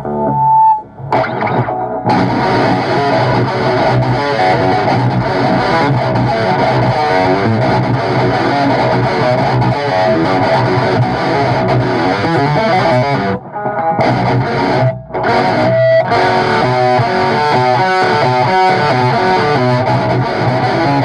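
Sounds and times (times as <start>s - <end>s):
distorted electric guitar riff: 0.0s - 21.0s.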